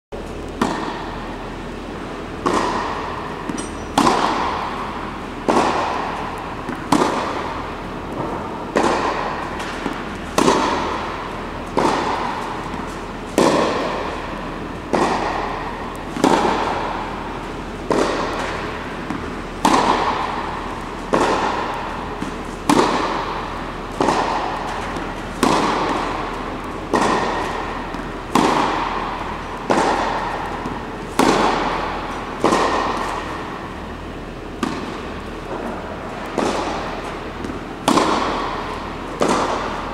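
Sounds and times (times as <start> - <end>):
tennis balls struck by rackets: 0.3 - 39.9.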